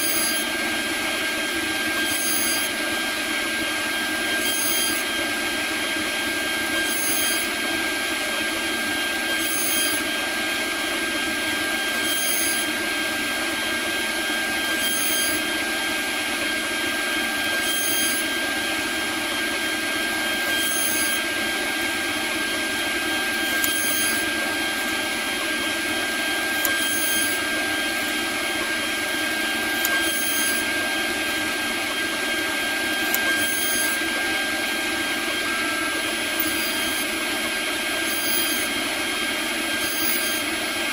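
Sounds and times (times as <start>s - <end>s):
router spindle high whine: 0.0s - 40.9s.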